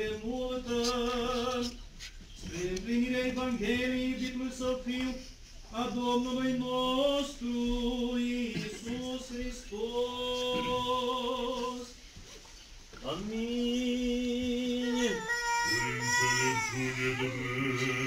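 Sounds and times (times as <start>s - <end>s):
a cappella liturgical chant: 0.0s - 12.0s, 13.0s - 18.0s.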